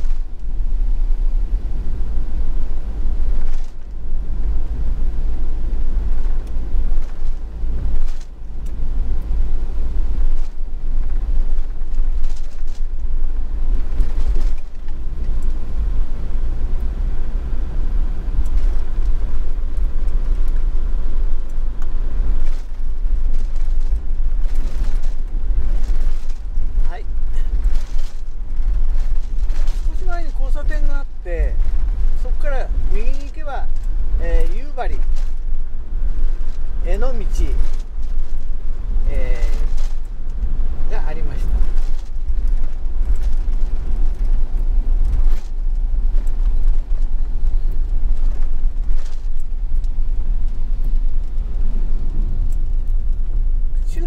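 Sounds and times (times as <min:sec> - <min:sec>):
vehicle road and engine rumble: 0:00.0 - 0:54.0.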